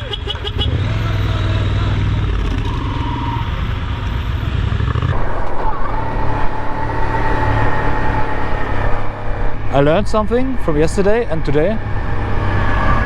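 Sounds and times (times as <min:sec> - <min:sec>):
motorcycle engine running: 0:00.0 - 0:12.5
road and wind noise: 0:00.0 - 0:13.0.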